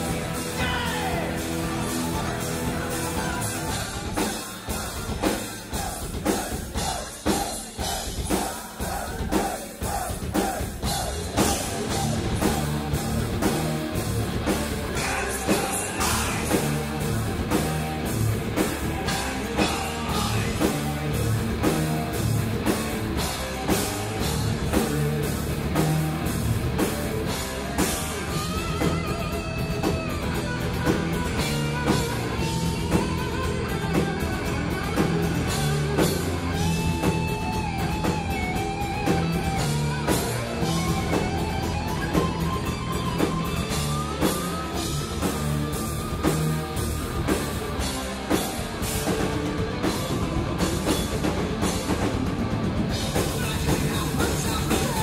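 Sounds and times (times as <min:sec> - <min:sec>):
electric guitars: 0:00.0 - 0:08.3, 0:09.8 - 0:55.0
heavy metal band playing live: 0:00.0 - 0:55.0.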